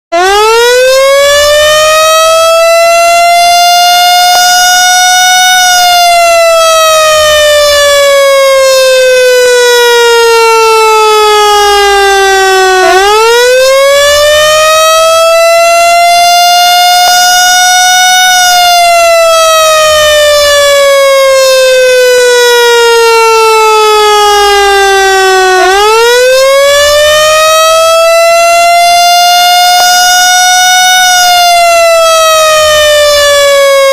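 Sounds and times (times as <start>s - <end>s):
siren wailing: 0.1s - 33.9s.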